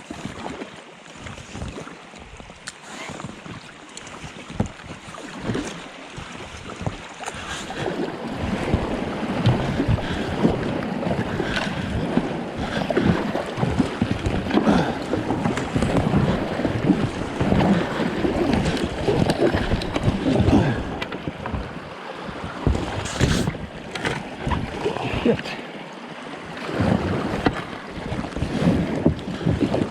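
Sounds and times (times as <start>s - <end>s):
paddle strokes splashing water: 0.0s - 29.9s
wind noise on microphone: 4.2s - 25.3s, 26.7s - 29.9s.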